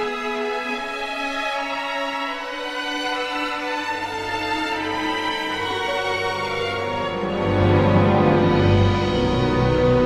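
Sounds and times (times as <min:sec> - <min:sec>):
slow orchestral strings: 0:00.0 - 0:10.0.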